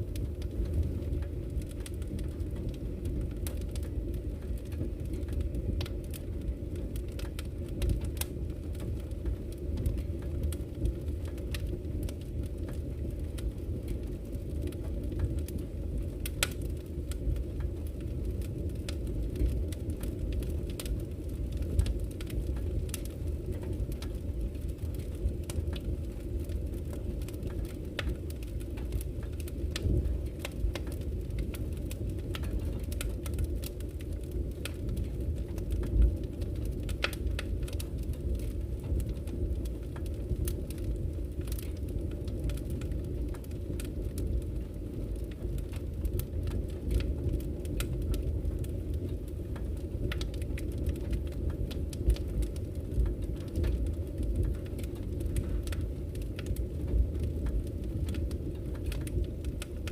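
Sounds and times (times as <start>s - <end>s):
fire rumbling: 0.0s - 59.9s
logs crackling and popping: 0.0s - 59.9s.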